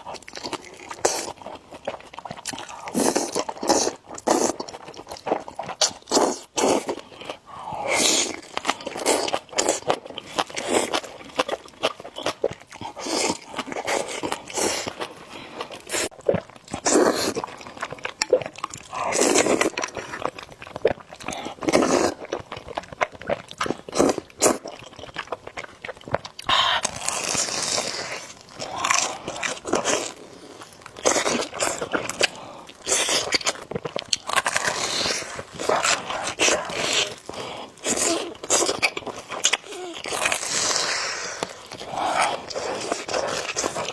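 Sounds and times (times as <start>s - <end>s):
noodles slurped and chewed: 0.0s - 43.9s.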